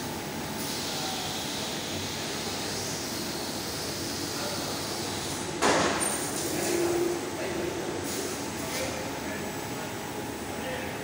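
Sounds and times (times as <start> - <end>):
workshop machinery droning: 0.0 - 11.0.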